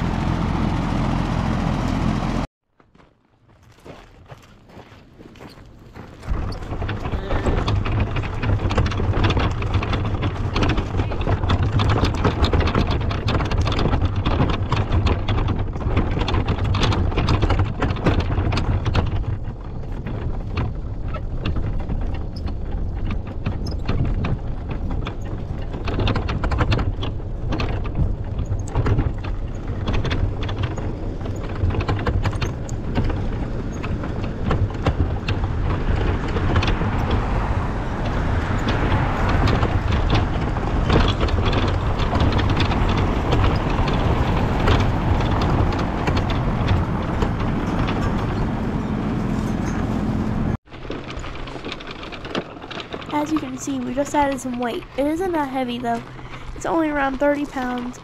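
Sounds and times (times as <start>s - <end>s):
wagon wheels rolling over gravel: 2.7s - 58.0s.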